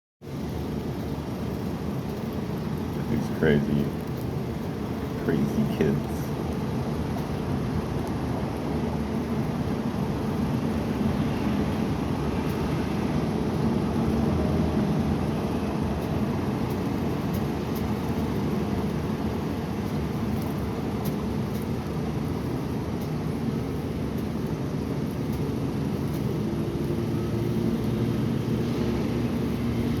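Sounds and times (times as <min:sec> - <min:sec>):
low rumbling noise: 0:00.2 - 0:30.0.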